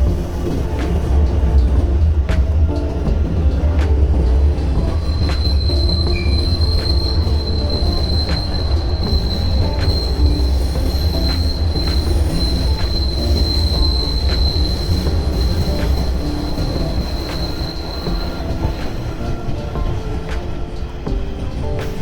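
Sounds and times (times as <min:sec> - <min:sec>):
high-pitched wheel squeal: 0:00.0 - 0:21.0
rail clicks: 0:00.0 - 0:22.0
subway train rumble: 0:00.0 - 0:22.0.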